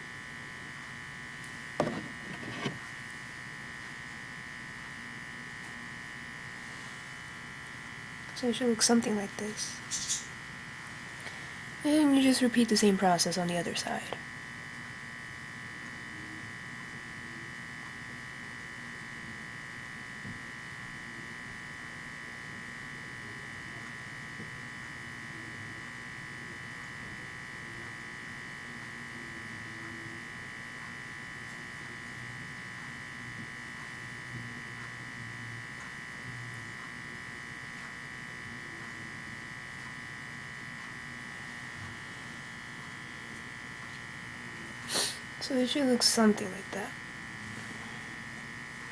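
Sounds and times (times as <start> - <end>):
high-pitched electrical whine: 0.0 - 48.9.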